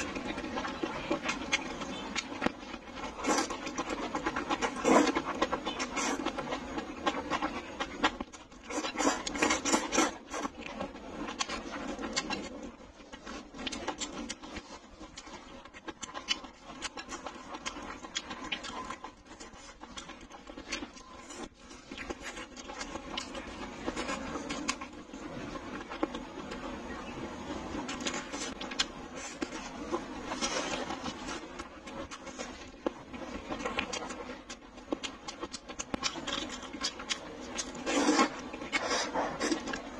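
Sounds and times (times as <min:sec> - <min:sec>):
noodles slurped and chewed: 0:00.0 - 0:39.9.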